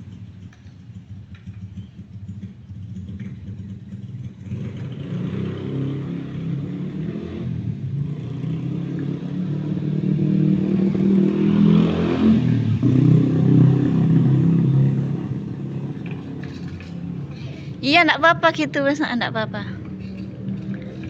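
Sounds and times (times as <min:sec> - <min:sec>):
motor vehicle engine running: 0:00.0 - 0:21.0.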